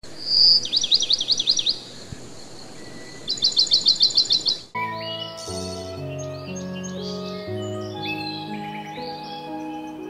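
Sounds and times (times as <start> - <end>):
songbird singing: 0.1 - 10.0.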